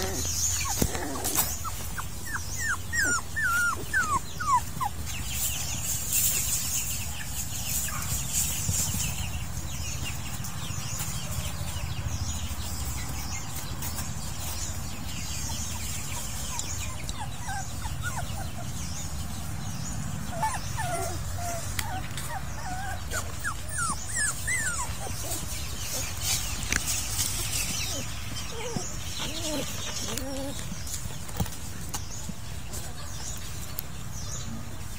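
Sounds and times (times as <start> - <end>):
young animals squeaking and whimpering: 0.0 - 34.9.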